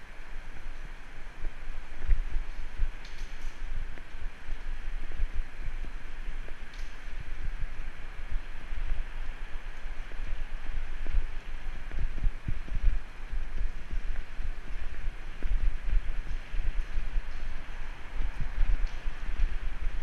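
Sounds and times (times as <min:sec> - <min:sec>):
bicycle riding road noise: 0:00.0 - 0:20.0
wind buffeting microphone: 0:00.0 - 0:20.0.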